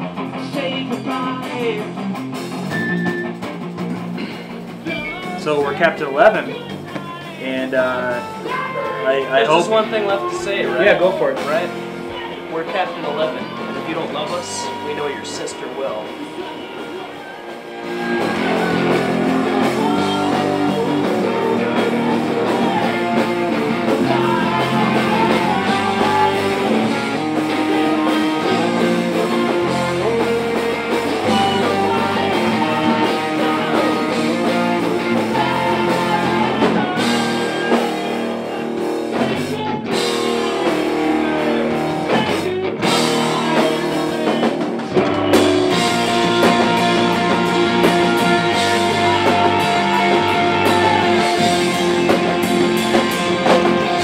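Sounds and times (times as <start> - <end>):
rock band playing: 0.0 - 54.0.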